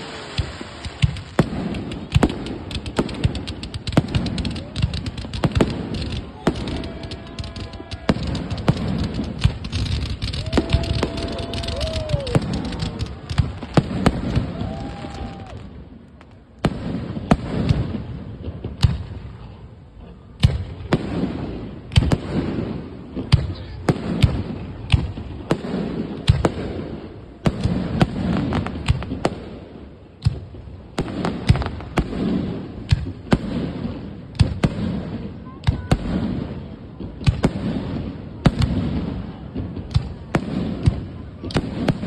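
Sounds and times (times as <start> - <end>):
fireworks bursting with bangs: 0.0 - 42.0.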